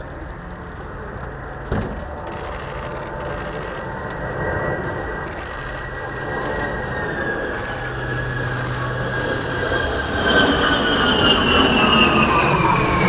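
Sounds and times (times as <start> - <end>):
high fan whine: 0.0 - 13.0
jet flying past: 0.0 - 13.0.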